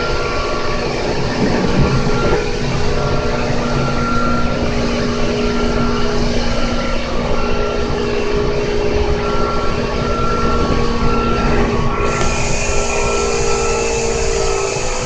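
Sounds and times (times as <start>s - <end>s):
high motor tone: 0.0s - 15.0s
train wheels rumbling on rail: 0.0s - 15.0s.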